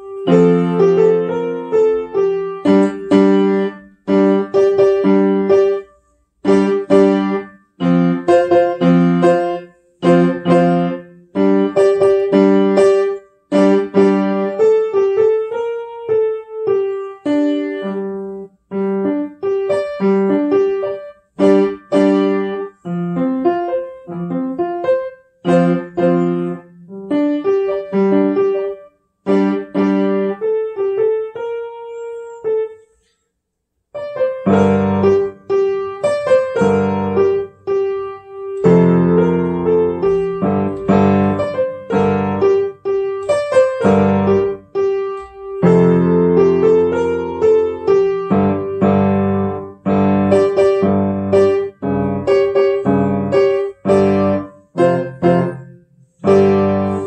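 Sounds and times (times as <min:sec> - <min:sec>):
solo piano tune: 0:00.0 - 0:33.2, 0:33.8 - 0:57.0.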